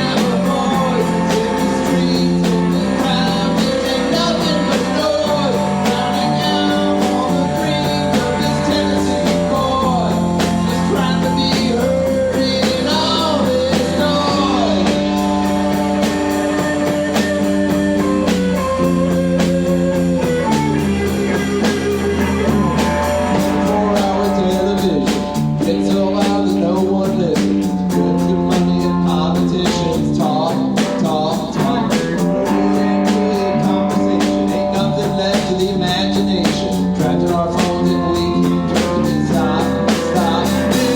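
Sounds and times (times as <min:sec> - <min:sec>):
drums: 0:00.0 - 0:40.9
electric guitar: 0:00.0 - 0:40.9
person singing: 0:00.0 - 0:40.9.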